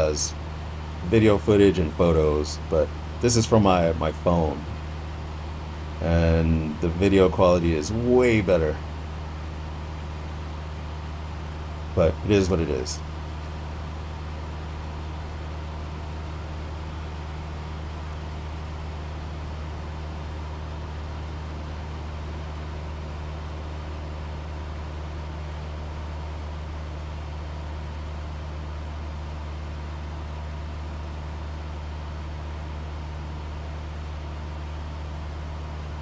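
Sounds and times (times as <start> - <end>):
airplane engine and propeller drone: 0.0 - 36.0.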